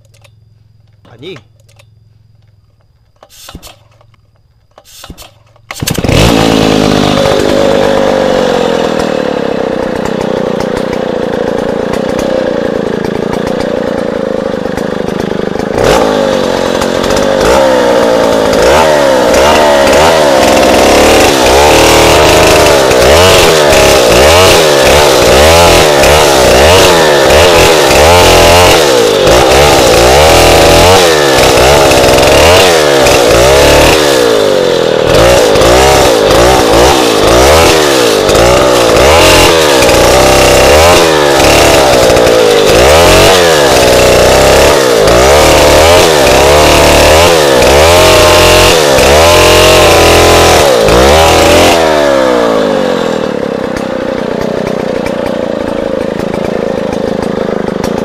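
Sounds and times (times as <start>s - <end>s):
chainsaw cutting log: 3.1s - 4.1s, 4.7s - 58.0s
chainsaw idling and revving: 5.0s - 58.0s.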